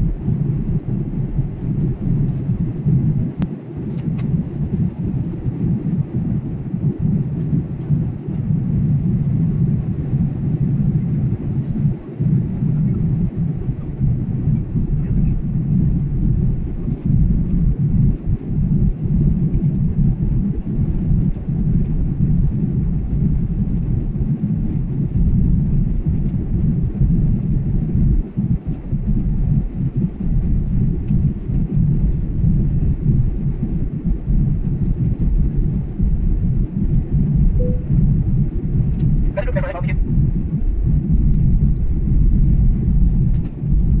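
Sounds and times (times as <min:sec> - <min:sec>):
jet engine cabin rumble: 0:00.0 - 0:44.0.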